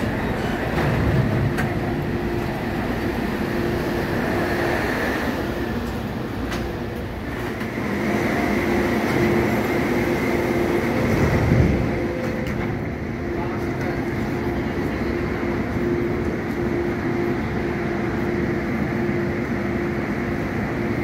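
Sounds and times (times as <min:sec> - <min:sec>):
constant hum: 0:00.0 - 0:21.0
train rumbling: 0:00.0 - 0:21.0.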